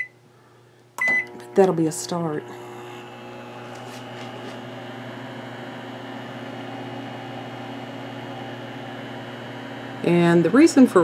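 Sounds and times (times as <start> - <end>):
microwave oven humming: 1.0 - 11.0.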